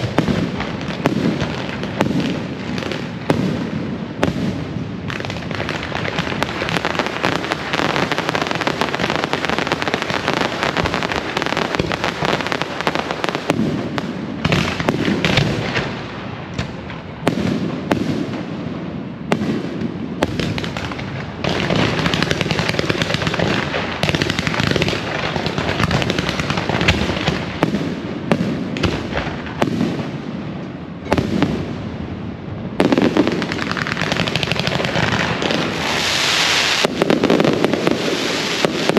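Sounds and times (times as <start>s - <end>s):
firecrackers and fireworks banging: 0.0s - 38.9s.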